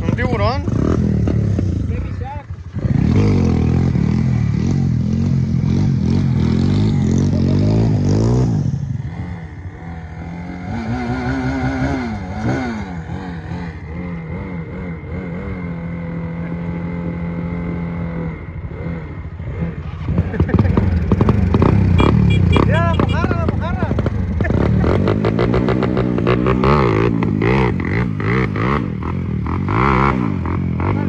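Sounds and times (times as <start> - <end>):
motorcycle engine revving and idling: 0.0 - 31.0.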